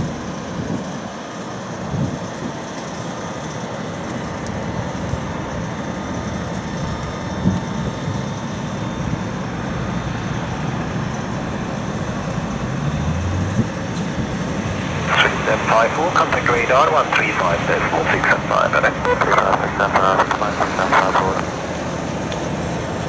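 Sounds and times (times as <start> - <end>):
distant jet engine rumble: 0.0 - 23.0.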